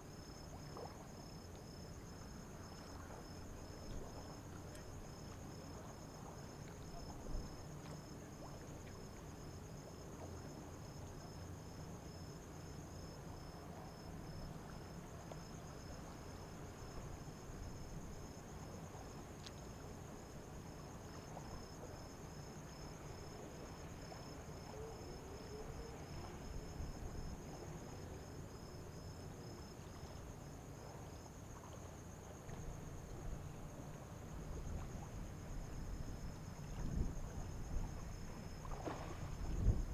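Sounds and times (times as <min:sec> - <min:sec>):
faint low rumble: 0:00.0 - 0:39.9
insects chirping in high trill: 0:00.0 - 0:39.9.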